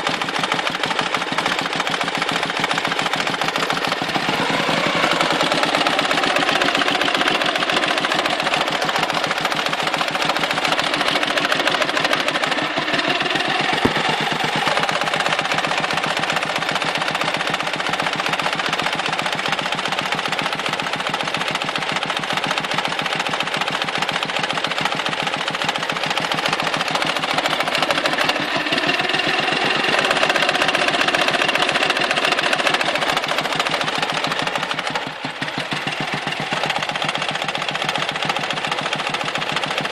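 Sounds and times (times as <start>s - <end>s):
motorcycle engine knocking: 0.0s - 39.9s.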